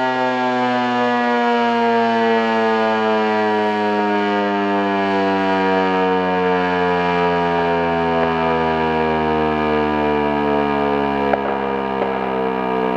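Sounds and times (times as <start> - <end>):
warning siren wailing: 0.0 - 12.9.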